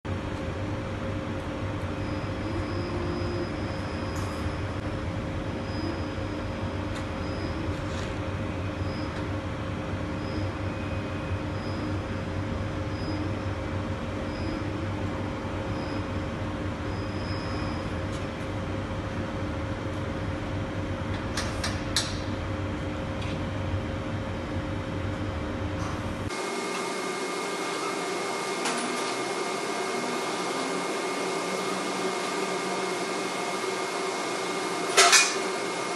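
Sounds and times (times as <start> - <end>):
industrial machine humming: 0.1 - 35.9.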